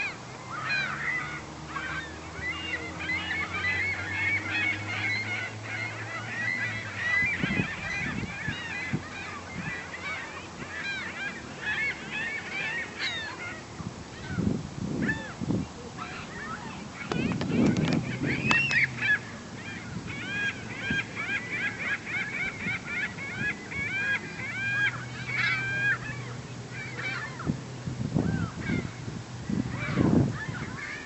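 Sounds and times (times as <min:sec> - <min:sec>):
gulls calling: 0:00.0 - 0:31.0.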